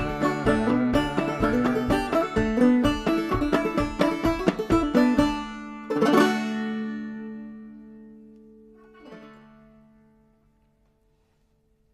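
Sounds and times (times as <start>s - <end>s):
banjo strummed chord ringing: 0.0s - 10.5s.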